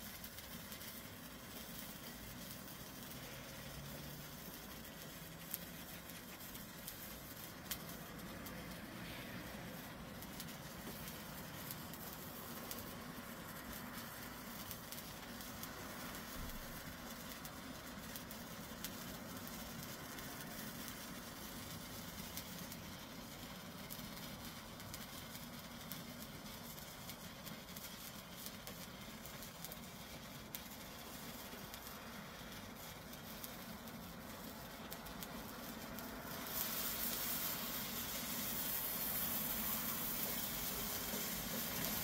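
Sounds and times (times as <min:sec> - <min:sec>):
sparkler hissing and crackling: 0:00.0 - 0:42.0.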